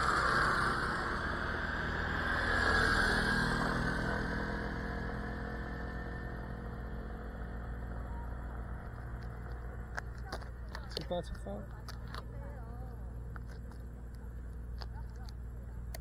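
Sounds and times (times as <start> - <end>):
motorcycles passing by: 0.0 - 13.0.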